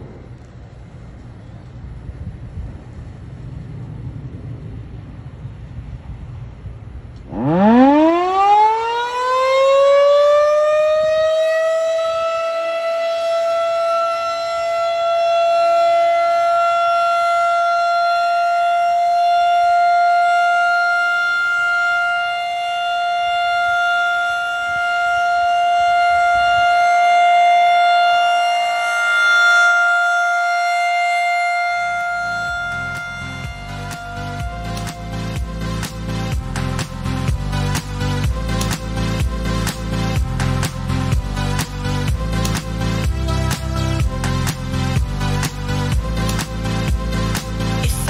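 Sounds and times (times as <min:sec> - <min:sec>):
rotating warning siren wailing: 0:06.7 - 0:48.0.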